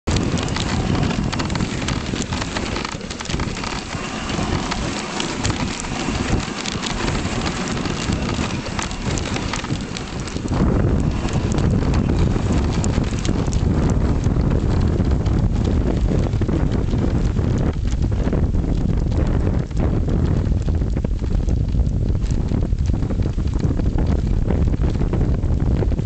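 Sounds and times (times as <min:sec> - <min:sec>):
sled runners and paws on snow: 0:00.0 - 0:26.0.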